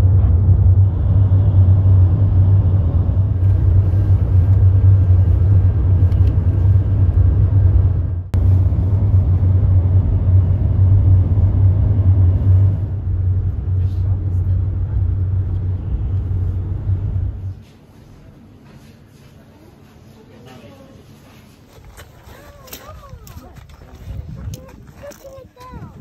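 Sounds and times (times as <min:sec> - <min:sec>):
road and engine rumble: 0:00.0 - 0:18.6, 0:21.5 - 0:26.0.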